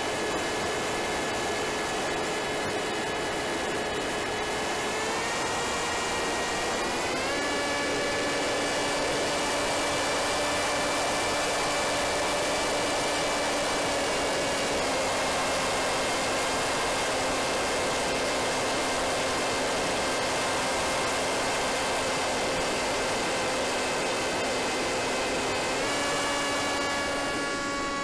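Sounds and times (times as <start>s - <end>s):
electric motor and propeller whine: 0.0s - 28.0s.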